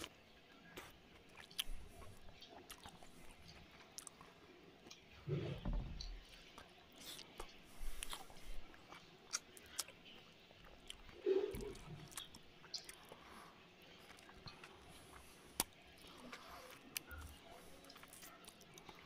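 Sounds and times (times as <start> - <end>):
man chewing food: 0.0 - 19.0.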